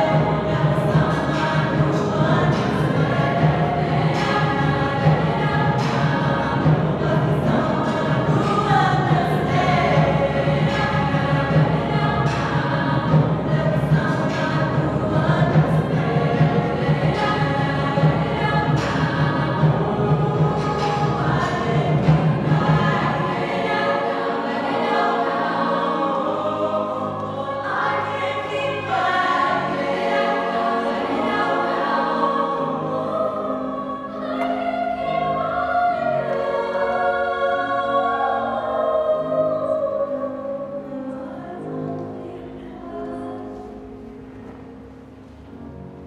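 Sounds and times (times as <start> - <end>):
mixed choir singing chords: 0.0 - 46.0.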